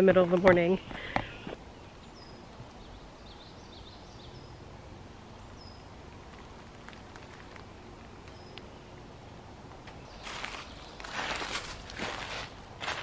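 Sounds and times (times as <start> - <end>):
birds calling: 0.0 - 4.7, 5.3 - 11.6.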